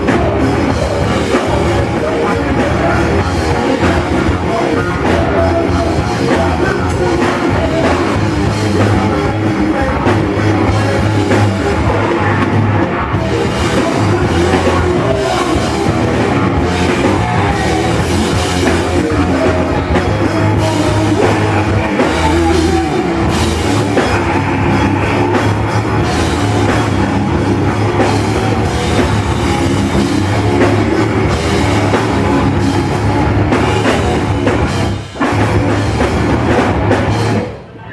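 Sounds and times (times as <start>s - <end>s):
rock music with drums: 0.0s - 37.9s.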